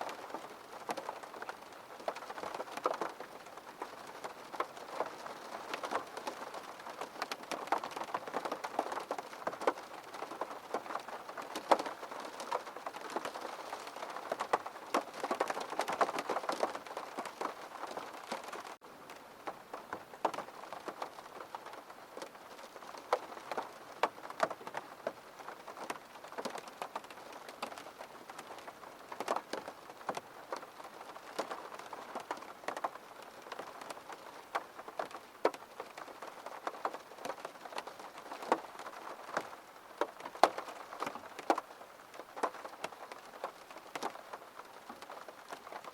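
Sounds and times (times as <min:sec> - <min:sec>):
rain tapping on window: 0:00.0 - 0:45.9.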